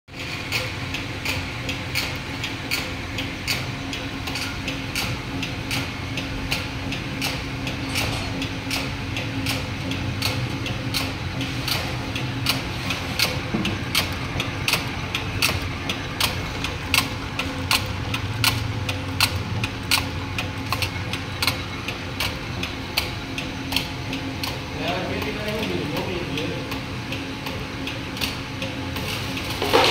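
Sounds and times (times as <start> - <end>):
machinery humming: 0.1 - 29.9.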